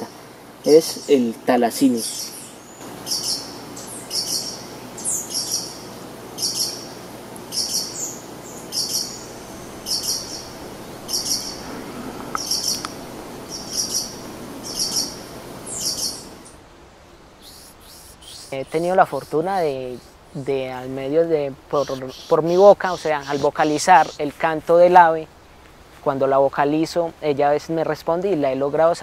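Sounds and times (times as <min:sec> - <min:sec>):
hummingbird high chipping song: 0:00.0 - 0:16.6, 0:17.4 - 0:24.3.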